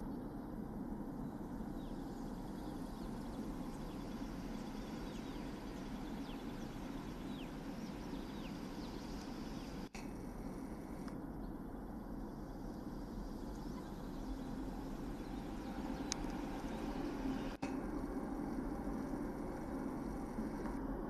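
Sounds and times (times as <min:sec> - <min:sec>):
birds chirping: 0:00.0 - 0:17.7
steady low rumble: 0:00.0 - 0:21.0.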